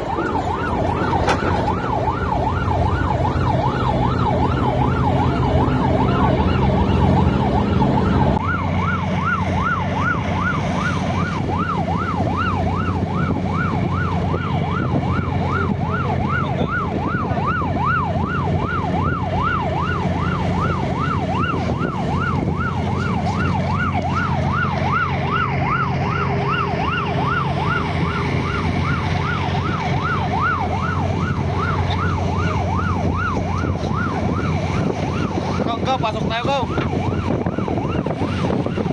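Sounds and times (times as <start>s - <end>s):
electronic siren wailing: 0.0s - 38.9s
low engine hum: 0.0s - 38.9s.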